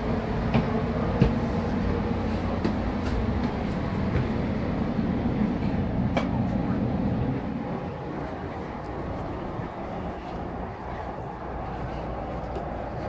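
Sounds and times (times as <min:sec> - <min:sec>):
rumble inside train car: 0:00.0 - 0:13.0.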